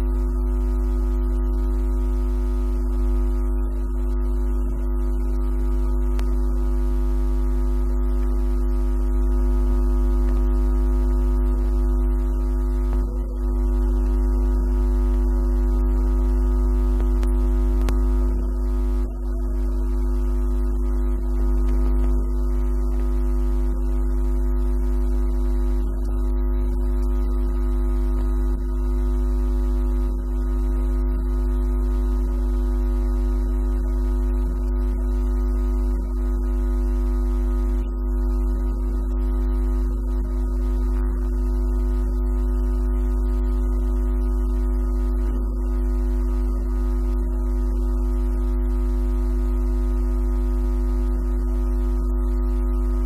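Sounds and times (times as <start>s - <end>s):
electronic drone: 2.7s - 47.8s.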